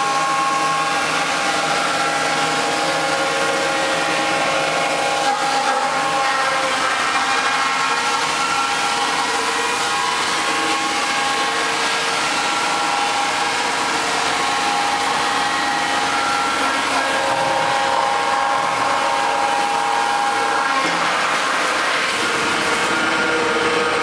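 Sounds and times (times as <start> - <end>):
wood crusher whining and rushing: 0.0 - 24.0.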